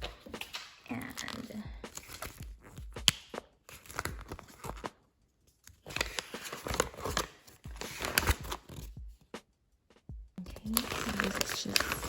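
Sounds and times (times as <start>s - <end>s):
paper and packaging rustling: 0.0s - 3.0s, 3.6s - 9.0s, 10.4s - 12.0s.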